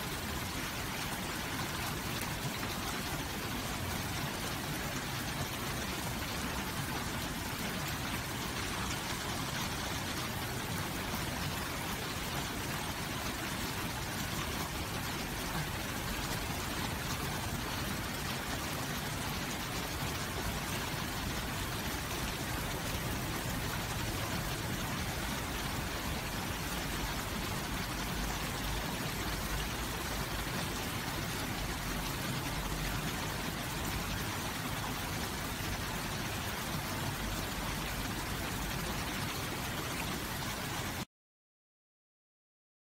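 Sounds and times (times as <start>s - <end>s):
water flowing over stone: 0.0s - 41.0s.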